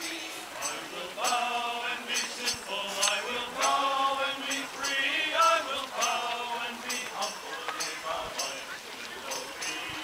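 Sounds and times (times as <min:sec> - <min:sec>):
people singing together: 0:00.0 - 0:10.0.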